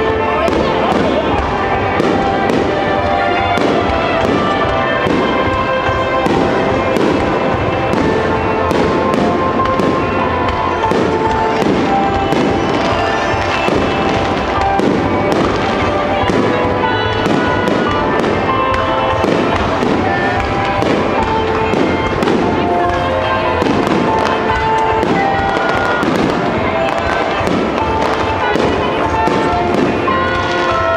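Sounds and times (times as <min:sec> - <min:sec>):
fireworks crackling: 0:00.0 - 0:30.9
fireworks shells bursting: 0:00.0 - 0:30.9
music playing: 0:00.0 - 0:30.9.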